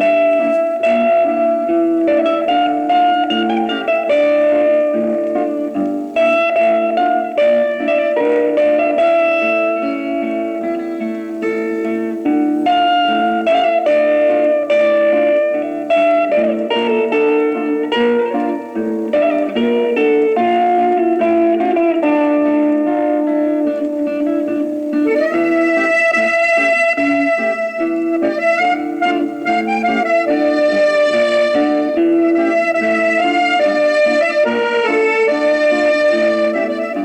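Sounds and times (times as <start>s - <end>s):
electric guitar melody: 0.0s - 37.0s.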